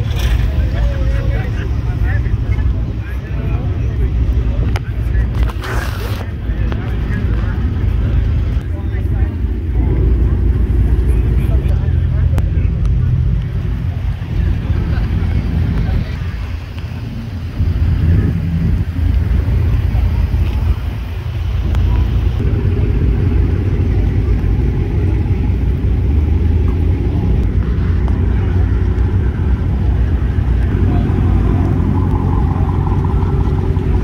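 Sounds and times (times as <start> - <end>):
car engines idling: 0.0 - 34.0
people talking: 0.0 - 34.0.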